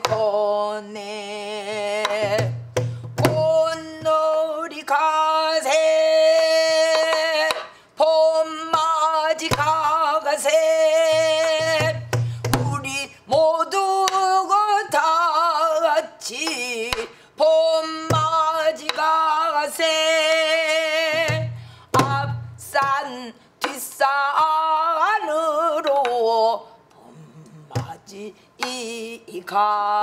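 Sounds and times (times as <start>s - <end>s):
woman singing with vibrato: 0.0s - 30.0s.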